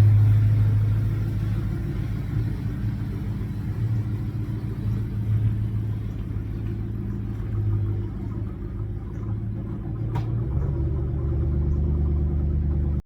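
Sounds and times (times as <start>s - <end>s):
pickup engine and road rumble: 0.0s - 13.0s.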